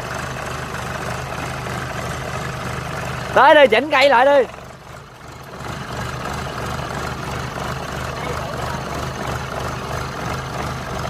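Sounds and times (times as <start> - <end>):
tracked machine engine running: 0.0 - 11.0.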